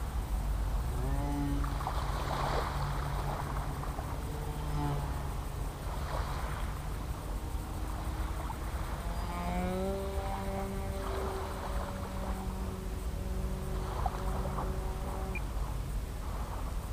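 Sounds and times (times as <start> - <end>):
propeller plane flying past: 0.0 - 16.9
wind on microphone: 0.0 - 16.9.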